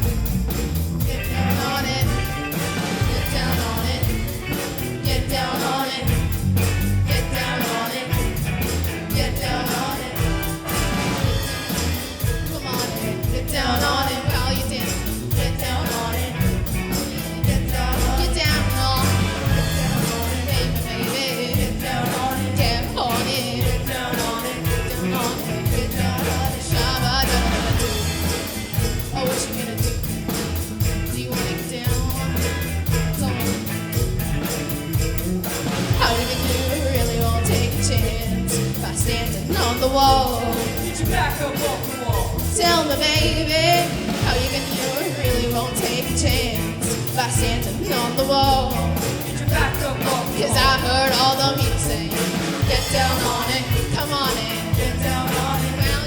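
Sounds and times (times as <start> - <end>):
band playing funk-pop dance song: 0.0 - 56.0.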